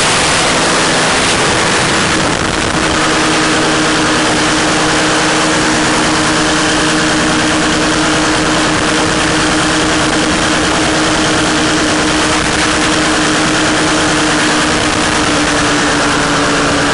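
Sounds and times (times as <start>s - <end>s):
two-stroke engine and propeller: 0.0s - 16.9s.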